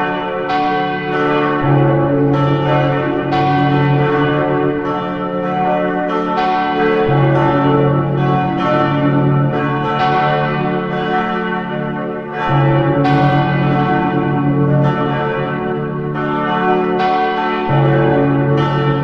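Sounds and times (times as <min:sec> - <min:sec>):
church bells pealing: 0:00.0 - 0:19.0
deep bell: 0:00.0 - 0:19.0.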